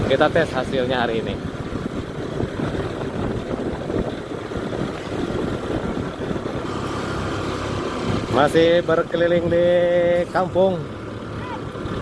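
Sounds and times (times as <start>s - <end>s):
road and wind noise: 0.0s - 12.0s
scooter engine running: 0.0s - 12.0s.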